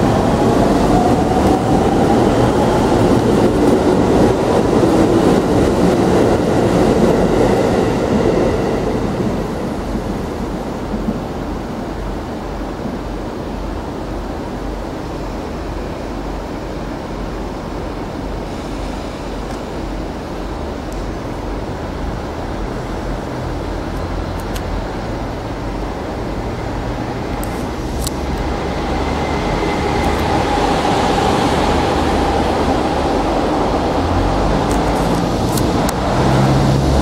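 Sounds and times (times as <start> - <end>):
diesel railcar engines rumbling: 0.0 - 37.0
steady whine: 0.0 - 37.0.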